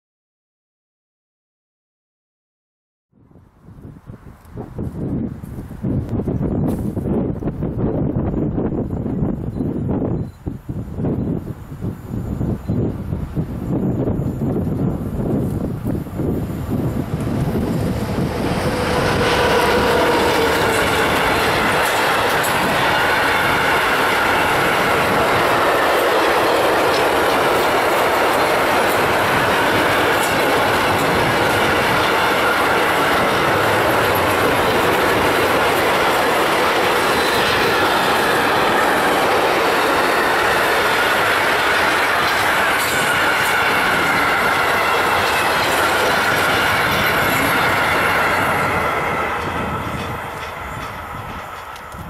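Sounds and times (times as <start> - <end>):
train wheels on rails: 3.8 - 52.0.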